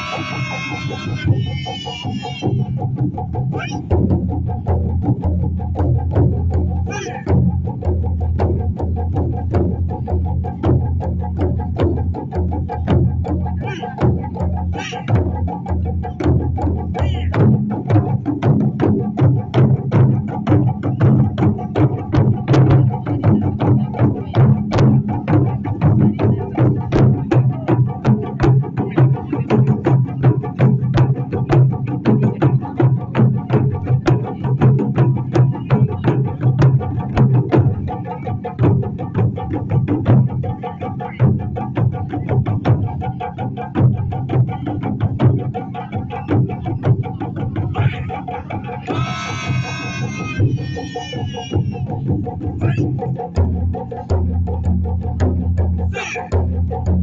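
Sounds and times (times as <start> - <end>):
taiko drums fast rhythm: 0.0 - 57.0.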